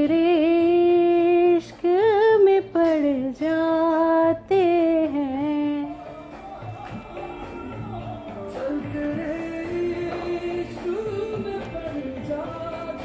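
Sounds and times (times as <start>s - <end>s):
quiet backing music: 0.0s - 13.0s
woman singing with vibrato: 0.0s - 13.0s.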